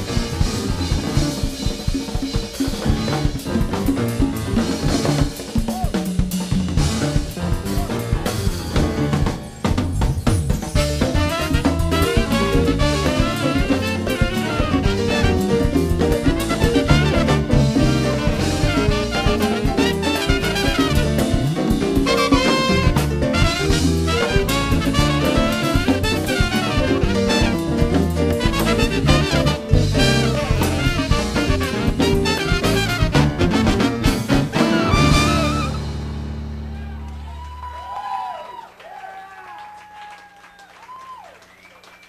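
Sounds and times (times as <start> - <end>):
live jazz band playing: 0.0 - 37.1.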